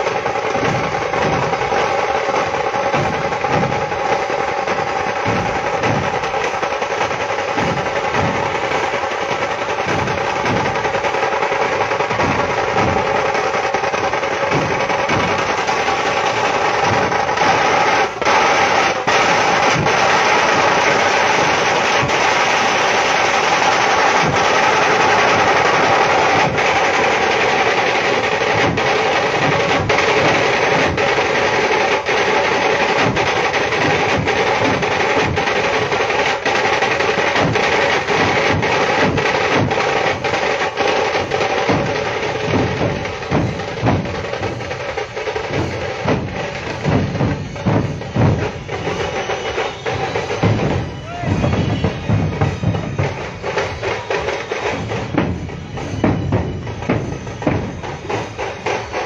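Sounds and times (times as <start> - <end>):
drum rolls: 0.0 - 59.0
low drum beats: 0.0 - 59.0.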